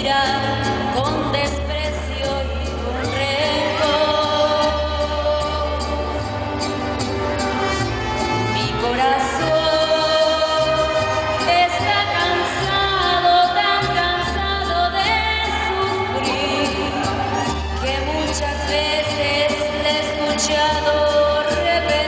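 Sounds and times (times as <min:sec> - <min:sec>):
woman singing: 0:00.0 - 0:06.4, 0:08.5 - 0:22.0
mariachi band playing: 0:00.0 - 0:22.0.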